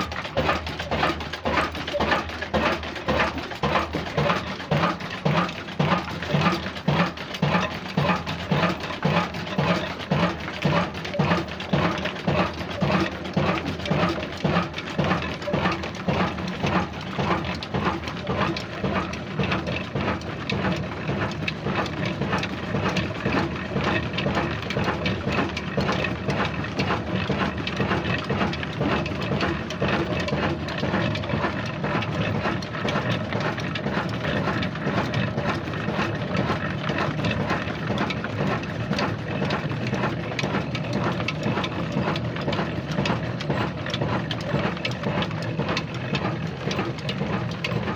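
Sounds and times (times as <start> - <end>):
diesel engine clattering: 0.0 - 47.9.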